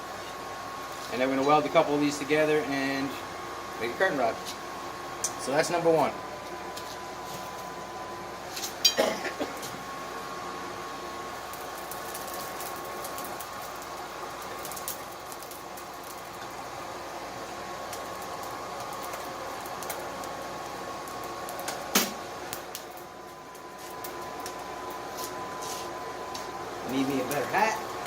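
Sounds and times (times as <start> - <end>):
blower whirring hum: 0.0 - 28.0.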